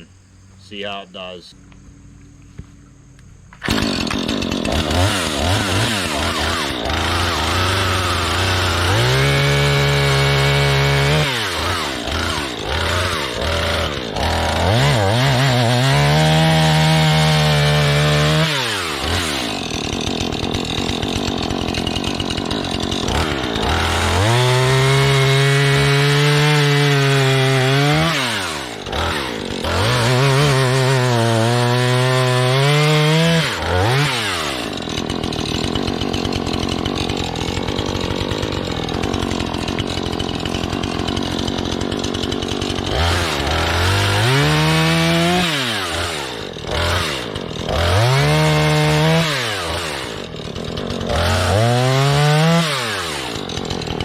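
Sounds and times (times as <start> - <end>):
chainsaw revving and idling: 3.5 - 54.0.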